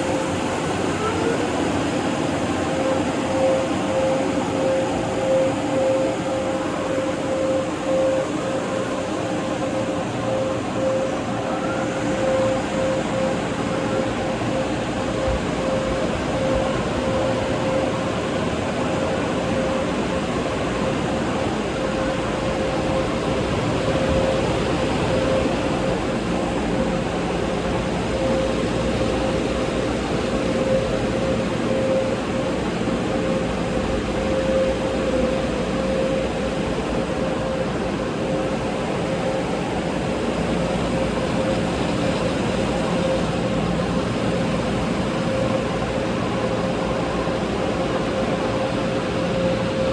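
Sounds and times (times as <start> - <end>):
car wash equipment running: 0.0 - 49.9.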